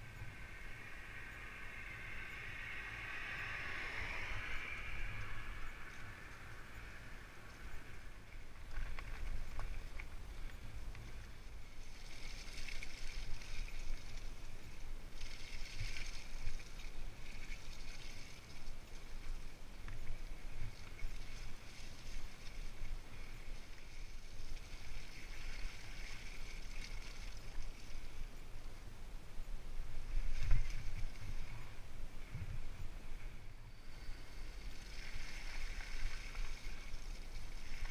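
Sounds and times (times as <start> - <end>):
bike tyres rolling on dirt: 4.2 - 37.9.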